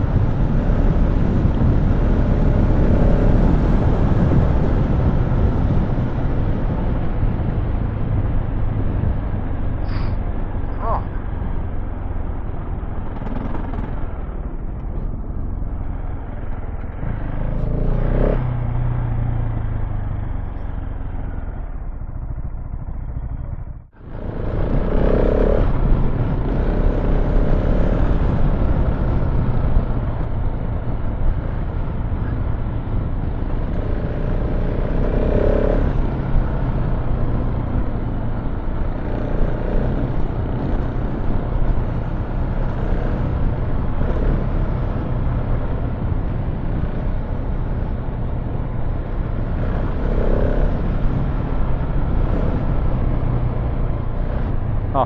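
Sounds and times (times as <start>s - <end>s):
motorcycle engine running off-road: 0.0s - 55.0s
riding noise: 0.0s - 55.0s.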